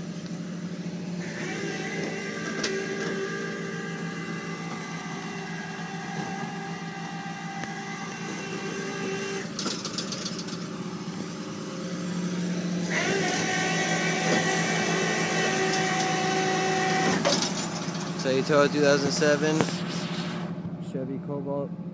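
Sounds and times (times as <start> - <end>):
hydraulic winch whining: 0.0 - 20.7.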